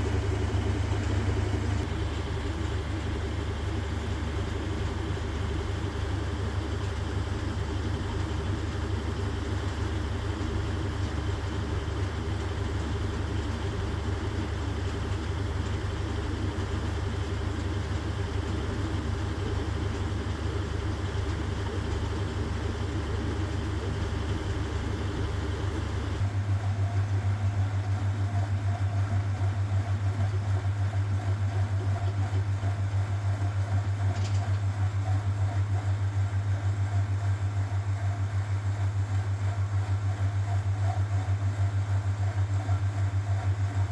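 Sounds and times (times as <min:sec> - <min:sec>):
washing machine running: 0:00.0 - 0:43.9.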